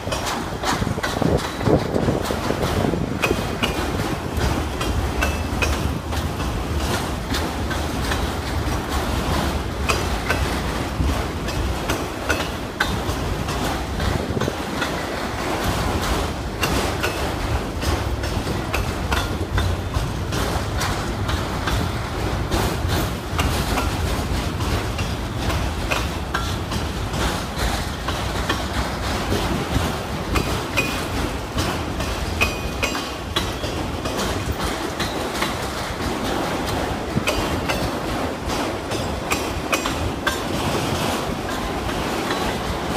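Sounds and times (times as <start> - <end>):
train wheels rumbling: 0.0 - 42.9
wheels clacking over rail joints: 0.0 - 42.9.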